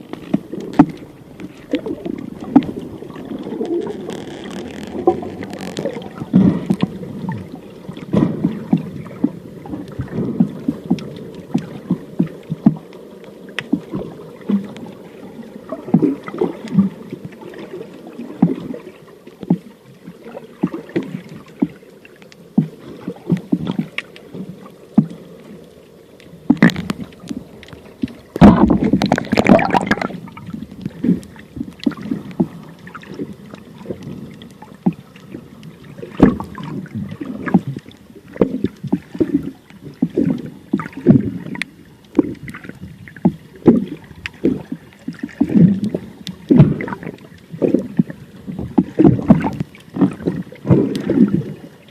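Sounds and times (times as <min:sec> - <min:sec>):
water sloshing and bubbling: 0:00.0 - 0:51.9.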